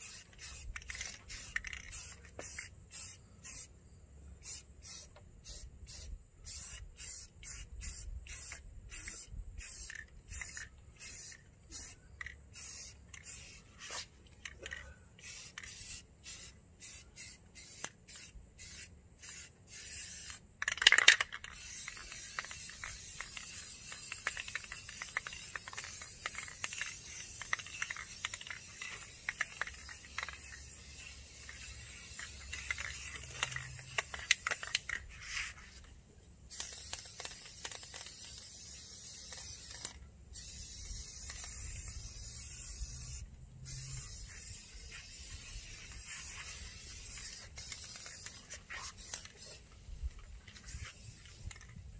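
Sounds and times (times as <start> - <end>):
spray paint can hissing: 0.0 - 3.8, 4.4 - 35.9, 36.5 - 51.9.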